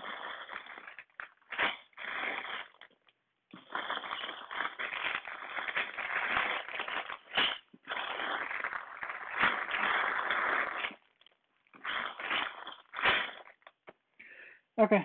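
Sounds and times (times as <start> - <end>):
plastic bags crinkling: 0.0 - 14.1.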